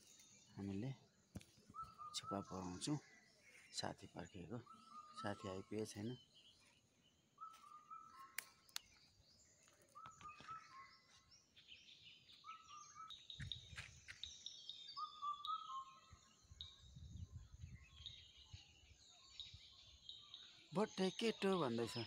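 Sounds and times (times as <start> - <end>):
high bird chirping: 1.7 - 6.8, 7.4 - 22.0.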